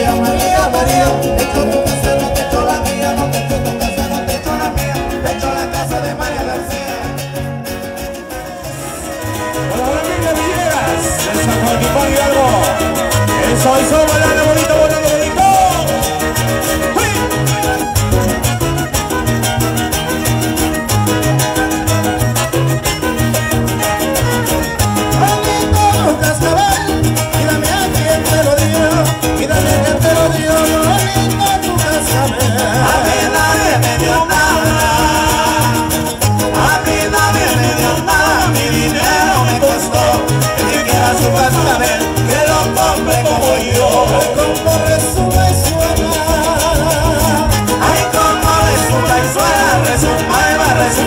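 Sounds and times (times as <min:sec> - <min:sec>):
violin melody: 0:00.0 - 0:43.4
rhythmic guitar strumming: 0:00.0 - 0:51.0.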